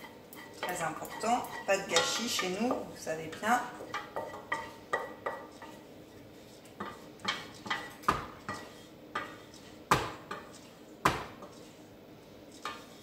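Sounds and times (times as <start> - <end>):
utensil scraping a saucepan: 0.0 - 13.0.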